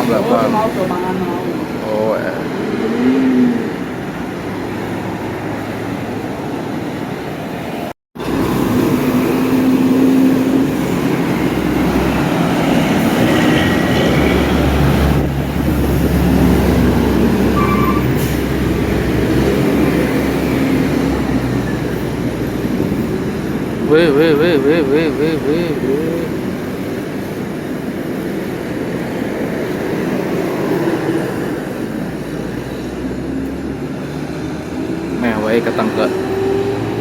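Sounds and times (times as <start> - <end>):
heavy vehicle rumbling past: 0.0 - 37.0
road traffic rushing: 0.0 - 37.0.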